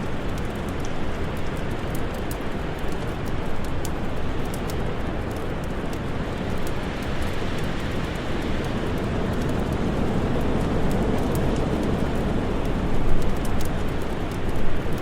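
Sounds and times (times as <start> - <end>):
crackling fire: 0.0 - 15.0.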